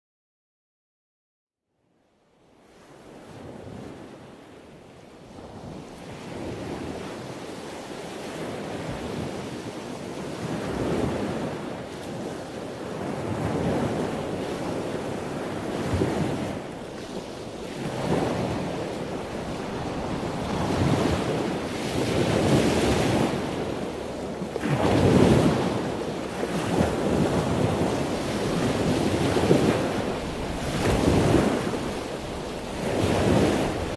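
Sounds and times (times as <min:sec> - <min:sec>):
ocean waves breaking: 0:02.6 - 0:33.9.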